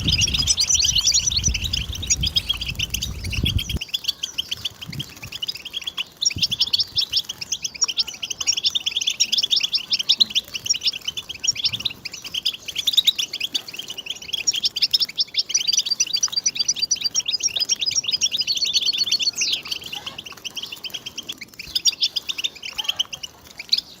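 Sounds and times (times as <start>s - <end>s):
goldfinch singing: 0.0s - 24.0s.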